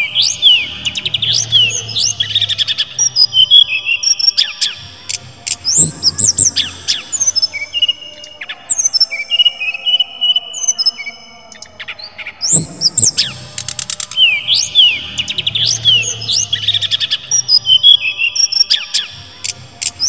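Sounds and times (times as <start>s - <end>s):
bird singing whistles and trills: 0.0s - 20.0s.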